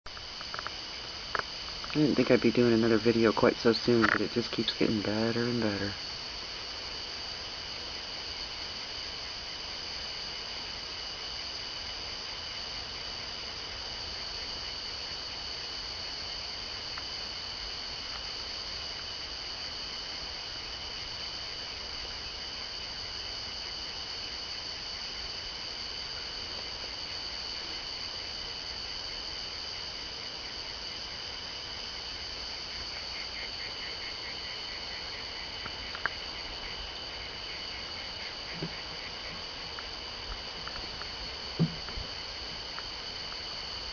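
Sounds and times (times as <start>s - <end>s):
night insects shrilling: 0.1s - 43.9s.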